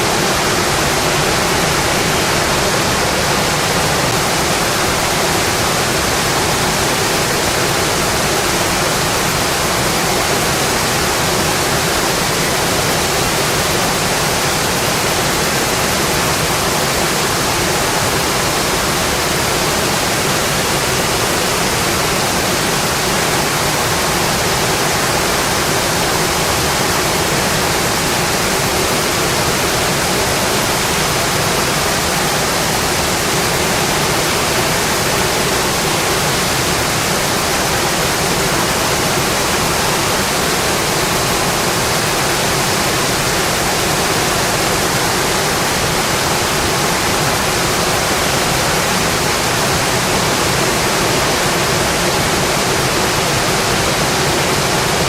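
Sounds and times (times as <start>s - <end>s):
dense steady rainfall: 0.0s - 55.0s.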